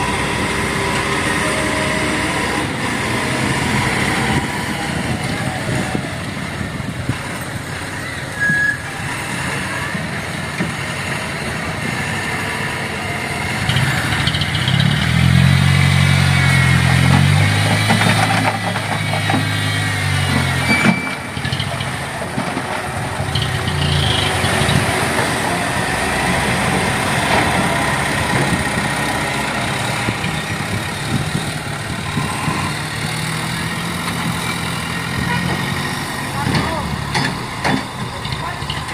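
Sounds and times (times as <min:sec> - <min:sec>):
dump truck diesel engine: 0:00.0 - 0:38.9.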